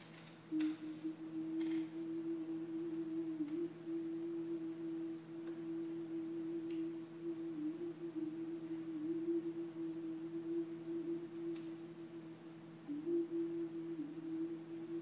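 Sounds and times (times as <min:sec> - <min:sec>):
pure held tone: 0:00.5 - 0:15.0.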